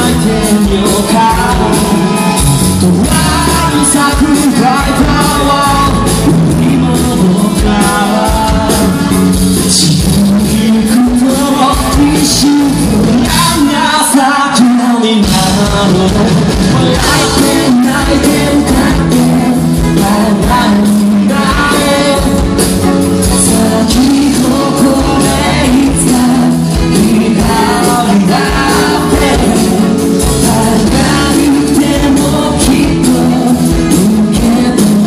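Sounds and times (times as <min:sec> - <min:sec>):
man singing lead vocal: 0:00.0 - 0:35.0
rock band playing live: 0:00.0 - 0:35.0.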